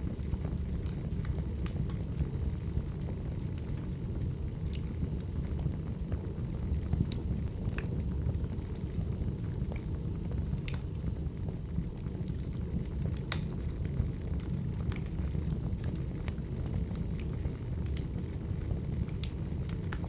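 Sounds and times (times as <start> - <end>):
firewood crackling and popping: 0.0 - 20.0
low rumble of flame: 0.0 - 20.0.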